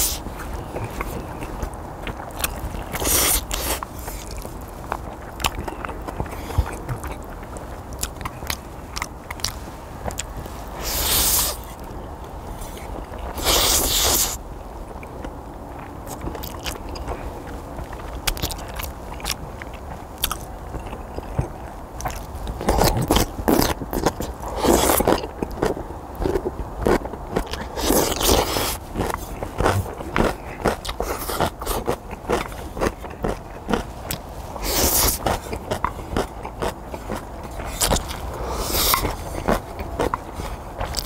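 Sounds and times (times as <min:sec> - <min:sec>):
chewing and biting noodles: 0:00.0 - 0:11.9, 0:12.6 - 0:14.4, 0:15.2 - 0:41.0.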